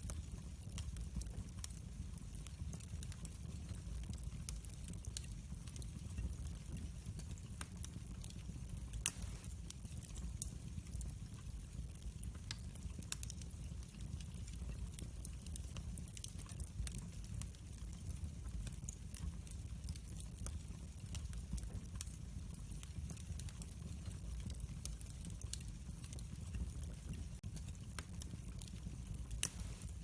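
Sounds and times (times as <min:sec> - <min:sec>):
fire crackling and popping: 0:00.0 - 0:30.0
fire flames rumbling: 0:00.0 - 0:30.0.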